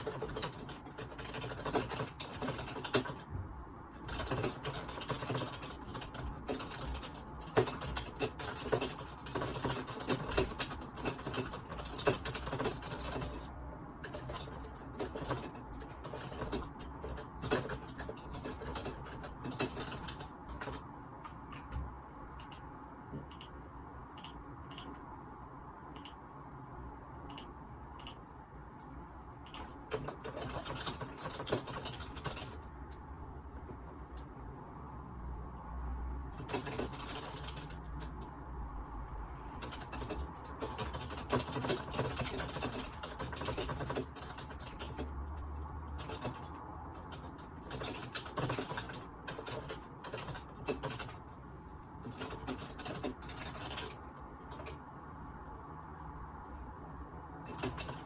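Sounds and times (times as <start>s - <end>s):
typing on computer keyboard: 0.0s - 25.0s, 25.9s - 26.2s, 29.4s - 34.3s, 36.3s - 38.4s, 39.6s - 55.0s, 57.4s - 58.0s.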